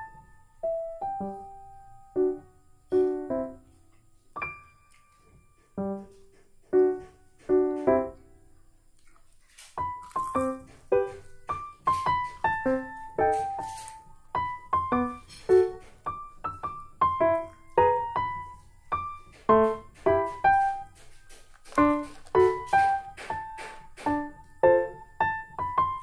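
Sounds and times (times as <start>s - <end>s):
piano melody: 0.0s - 8.6s, 9.8s - 26.0s.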